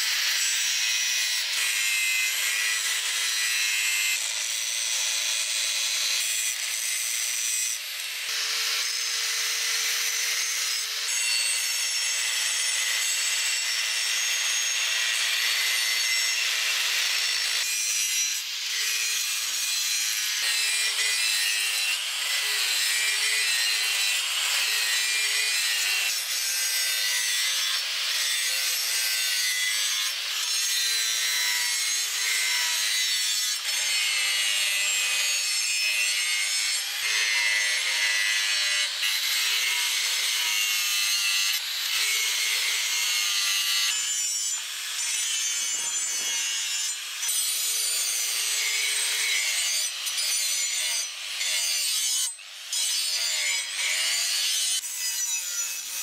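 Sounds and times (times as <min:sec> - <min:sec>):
angle grinder grinding steel: 0:00.0 - 0:56.0.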